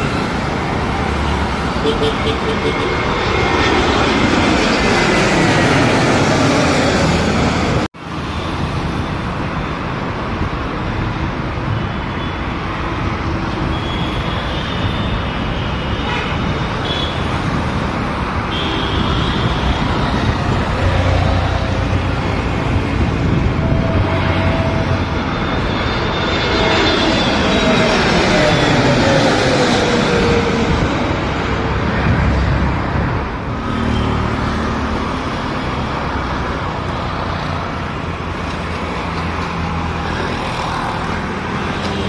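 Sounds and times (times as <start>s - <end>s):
jet airliner engine whine: 0.0s - 42.0s
jet roar: 0.0s - 42.0s
road traffic noise: 0.0s - 42.0s.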